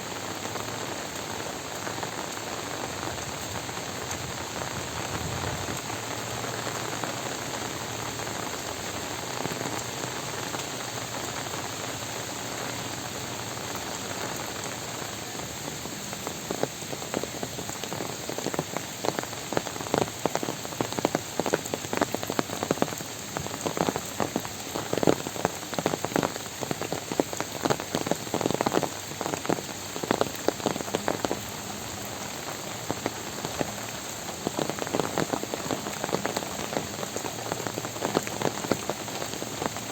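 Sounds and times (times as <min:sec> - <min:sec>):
heavy rain hissing: 0:00.0 - 0:39.9
large raindrops splatting: 0:00.0 - 0:39.9.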